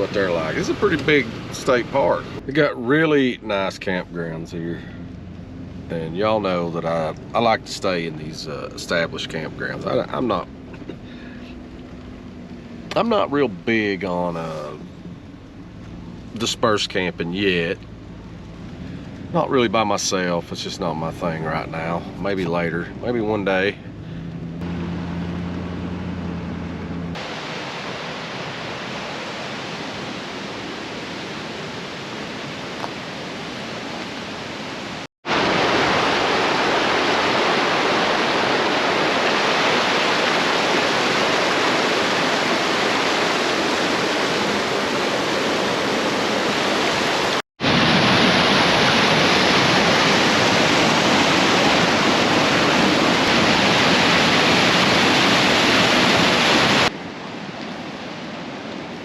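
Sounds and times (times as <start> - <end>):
rushing water: 0.0 - 23.8, 24.6 - 59.0.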